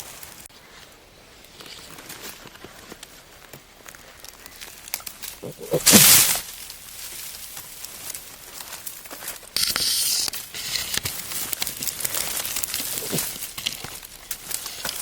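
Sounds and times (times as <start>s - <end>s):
rustling of dry leaves and twigs: 0.0s - 15.0s.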